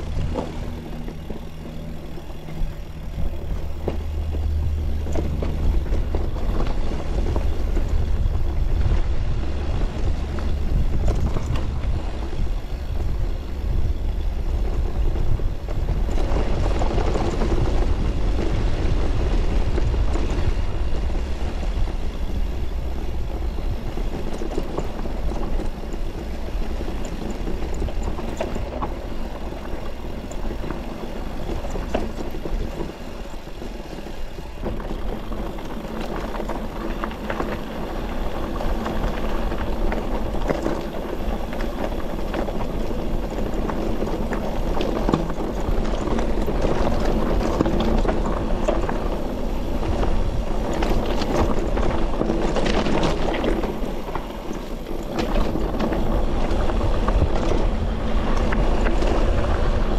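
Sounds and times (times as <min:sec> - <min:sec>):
bike rattling: 0:00.0 - 0:59.9
tyres crunching on rough track: 0:00.0 - 0:59.9
wind rumbling on microphone: 0:00.0 - 0:59.9.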